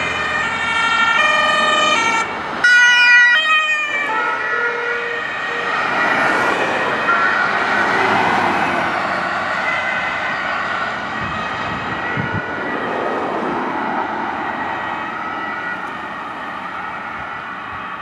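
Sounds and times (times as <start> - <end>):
traffic and engines: 0.0 - 18.0
two-tone emergency sirens: 0.0 - 18.0.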